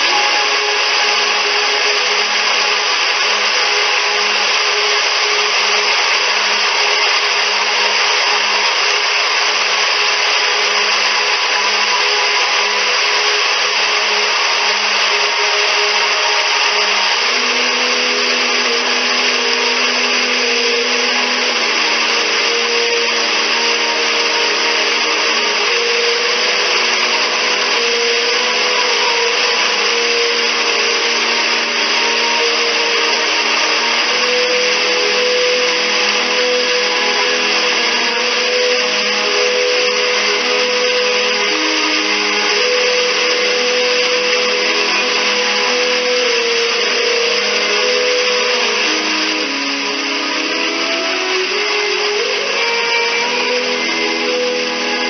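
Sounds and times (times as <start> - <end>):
soft background music: 0.0 - 55.0
waterfall rushing: 0.0 - 55.0.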